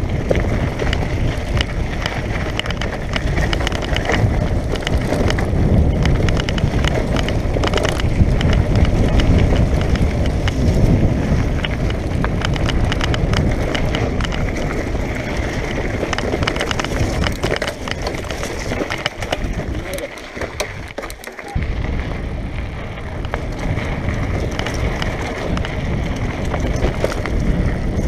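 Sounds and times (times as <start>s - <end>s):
bike rattling over bumps: 0.0s - 28.0s
tyres crunching over gravel: 0.0s - 28.0s
wind rumbling on microphone: 0.0s - 28.0s.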